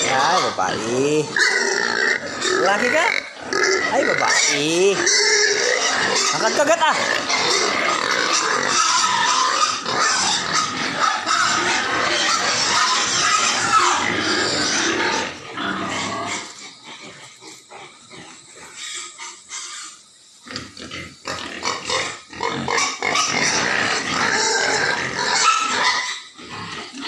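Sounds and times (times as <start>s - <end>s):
pigs vocalizing: 0.0s - 27.0s.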